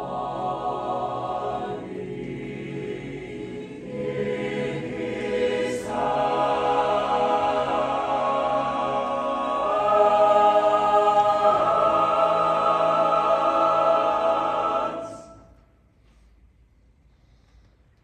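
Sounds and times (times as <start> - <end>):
choir singing held chords: 0.0 - 15.6.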